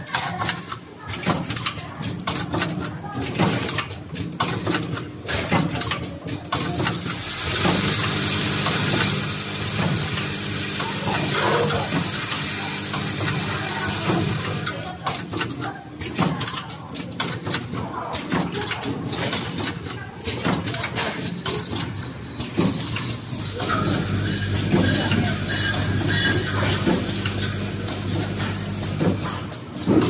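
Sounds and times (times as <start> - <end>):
machine clicking and clattering: 0.0 - 30.0.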